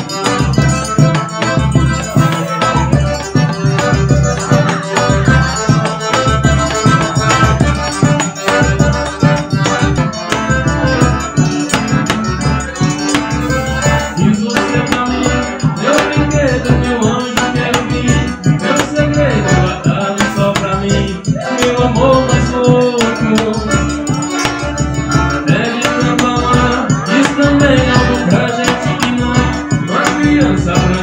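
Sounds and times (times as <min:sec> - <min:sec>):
accordion: 0:00.0 - 0:31.0
bass drum: 0:00.0 - 0:31.0.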